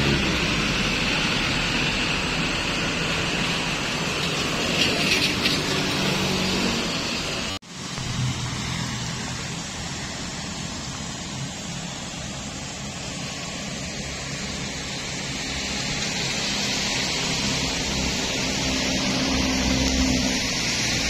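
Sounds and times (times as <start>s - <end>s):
low traffic rumble: 0.0s - 21.0s.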